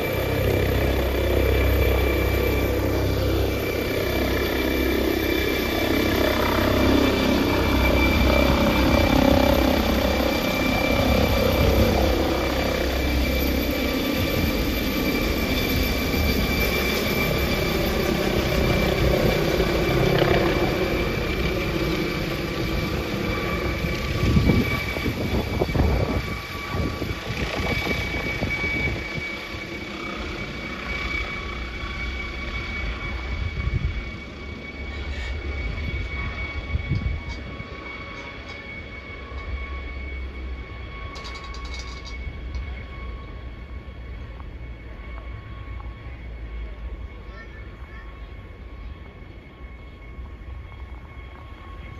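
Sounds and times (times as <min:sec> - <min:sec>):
helicopter rotor and engines: 0:00.0 - 0:51.9.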